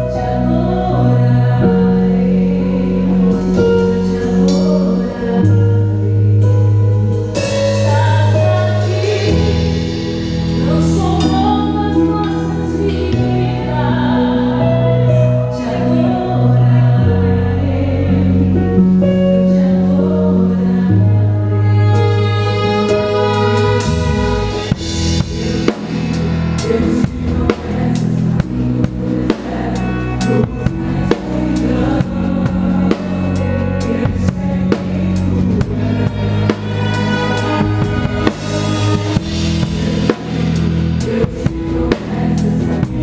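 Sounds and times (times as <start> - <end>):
bass and keyboard chords: 0.0 - 43.0
person singing: 0.0 - 43.0.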